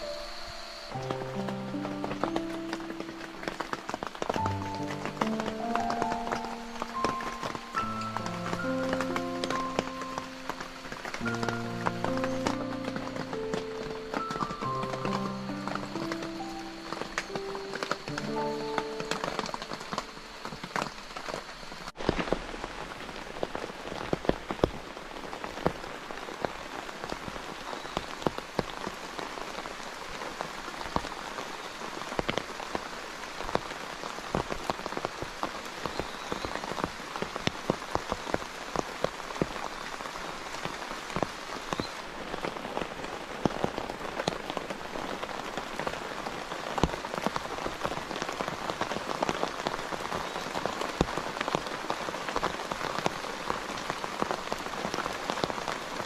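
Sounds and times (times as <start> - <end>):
steady rainfall: 0.0 - 56.0
raindrop hits: 0.9 - 56.0.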